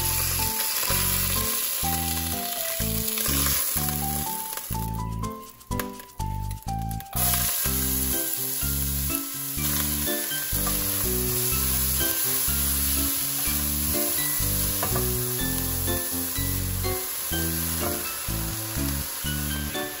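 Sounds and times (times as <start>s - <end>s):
background music: 0.0s - 20.0s
vegetables sizzling in hot oil: 0.0s - 20.0s.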